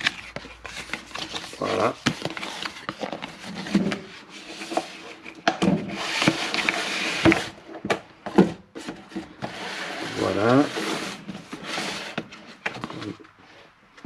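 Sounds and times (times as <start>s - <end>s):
cardboard rubbing and scraping: 0.0s - 7.6s, 8.8s - 13.2s.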